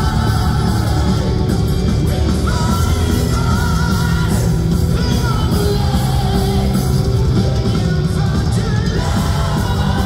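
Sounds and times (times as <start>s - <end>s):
metal band playing live: 0.0s - 10.0s.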